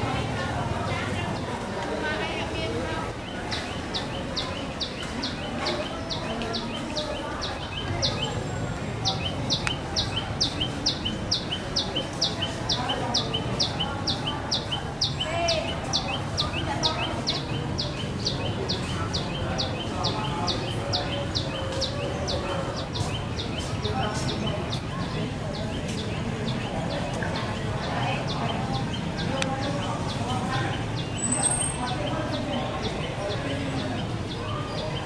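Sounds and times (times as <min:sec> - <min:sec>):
distant voices murmuring: 0:00.0 - 0:35.0
bird chirping: 0:02.2 - 0:35.0.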